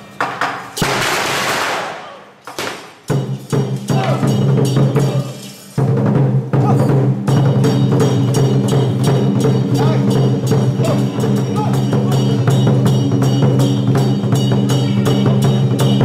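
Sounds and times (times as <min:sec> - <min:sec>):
cymbals: 0:00.0 - 0:16.0
drum beating fast rhythm: 0:03.0 - 0:16.0
continuous metallic ringing: 0:03.1 - 0:16.0
gongs: 0:03.1 - 0:16.0.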